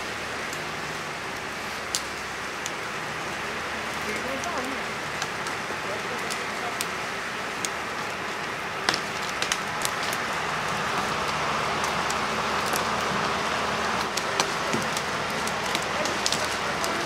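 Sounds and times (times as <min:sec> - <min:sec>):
tractor engine: 0:00.0 - 0:17.0.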